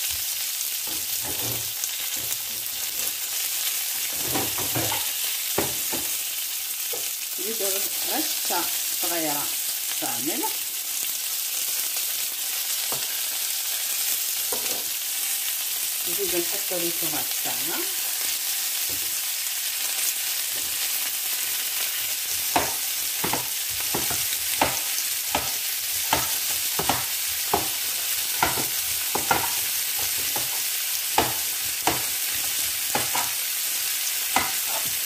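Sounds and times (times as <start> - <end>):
vegetables sizzling in a frying pan: 0.0 - 35.0.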